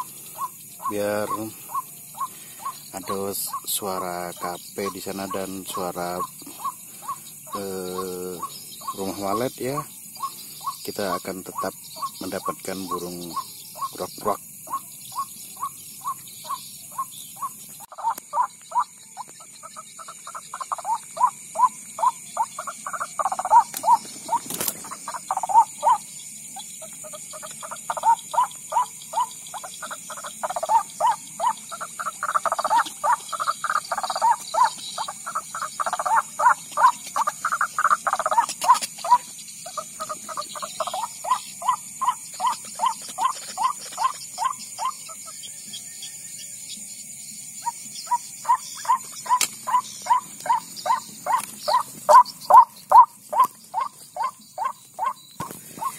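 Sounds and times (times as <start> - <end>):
bird croaking from a loudspeaker: 0.0 - 46.2, 47.6 - 55.9.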